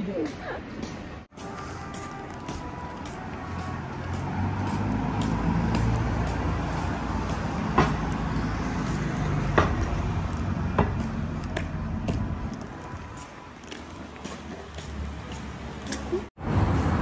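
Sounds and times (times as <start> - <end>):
vehicle engine rumble: 0.8 - 17.0.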